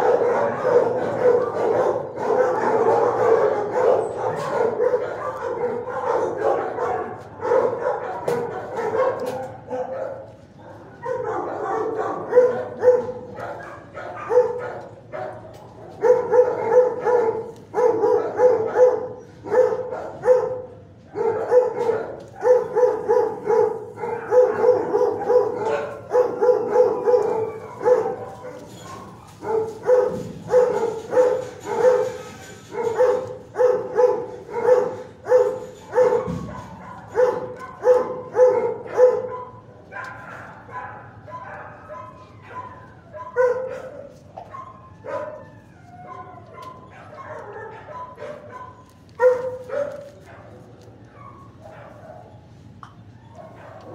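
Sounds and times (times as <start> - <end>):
dogs barking: 0.0 - 53.9.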